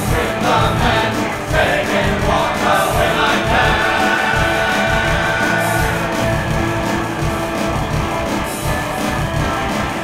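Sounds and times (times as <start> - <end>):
guitar strumming: 0.0 - 10.0
steady pulsing drum beat: 0.0 - 10.0.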